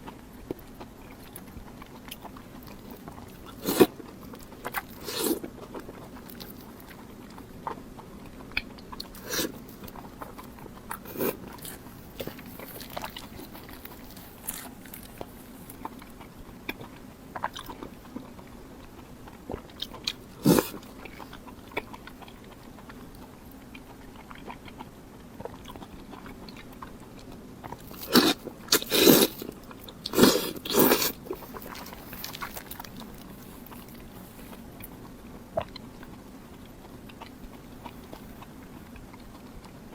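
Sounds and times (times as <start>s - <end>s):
person biting and chewing food: 0.0s - 39.8s.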